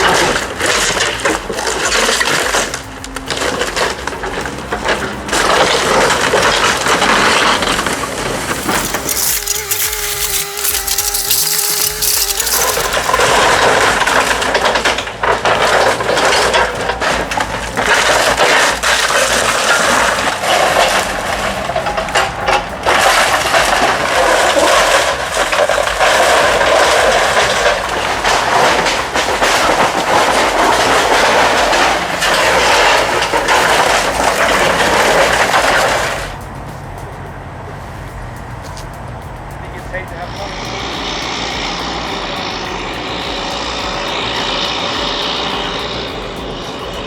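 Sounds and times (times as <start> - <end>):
excavator engine running: 0.0 - 47.0.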